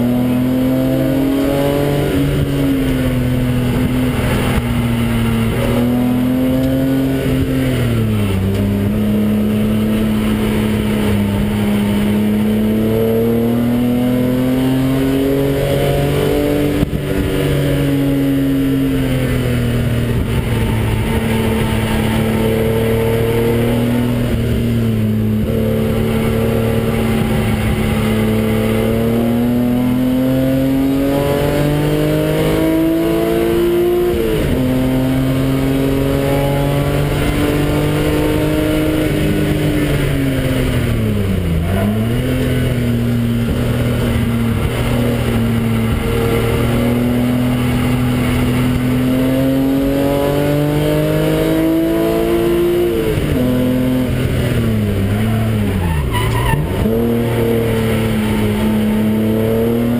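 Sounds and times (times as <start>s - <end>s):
car engine under hard acceleration: 0.0s - 59.9s.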